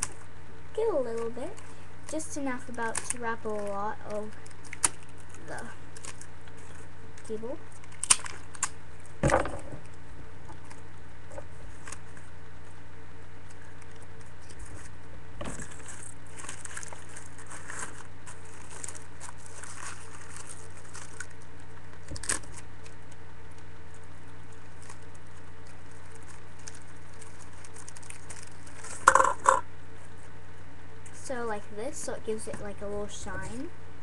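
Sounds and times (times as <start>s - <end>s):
low electrical hum: 0.0s - 34.0s
paper coffee filter crinkling: 0.9s - 30.4s.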